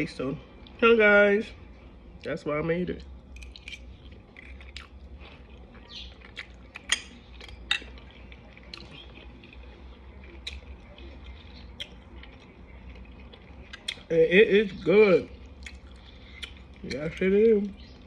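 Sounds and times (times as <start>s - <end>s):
steady low hum: 0.0s - 18.0s
person chewing pasta: 3.0s - 18.0s.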